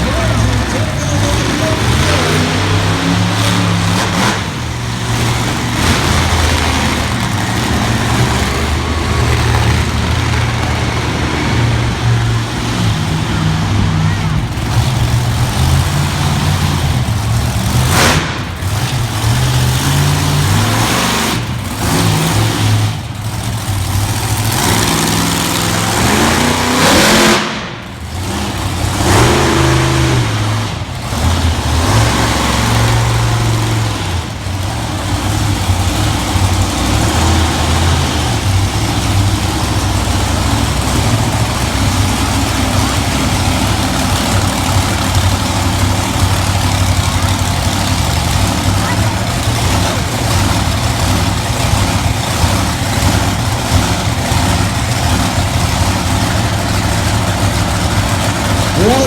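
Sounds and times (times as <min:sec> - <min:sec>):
truck engine revving loudly: 0:00.0 - 0:59.0.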